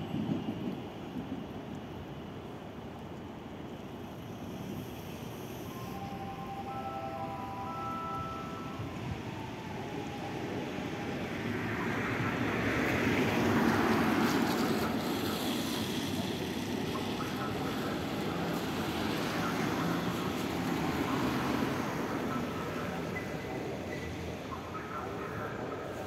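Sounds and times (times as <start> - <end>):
city background rumble: 0.0 - 26.0.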